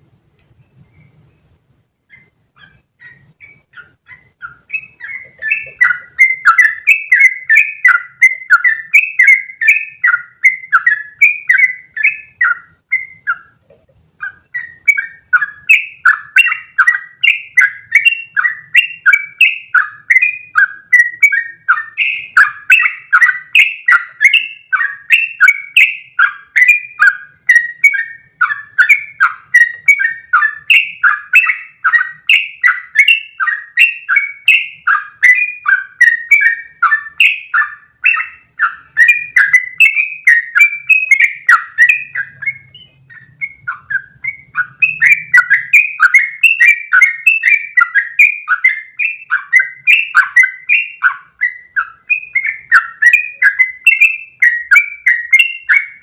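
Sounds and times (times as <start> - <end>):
bird singing bubbly notes: 0.6 - 13.6, 14.2 - 56.0.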